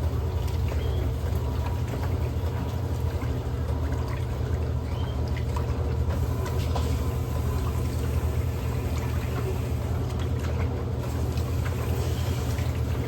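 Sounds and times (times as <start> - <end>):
washing machine motor hum: 0.0 - 13.0
water sloshing: 0.0 - 13.0.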